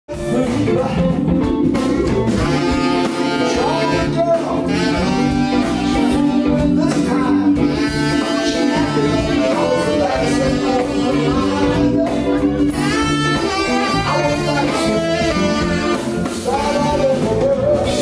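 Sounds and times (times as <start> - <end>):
drums: 0.1 - 18.0
electric guitar: 0.1 - 18.0
keyboard: 0.1 - 18.0
tenor saxophone: 2.3 - 18.0.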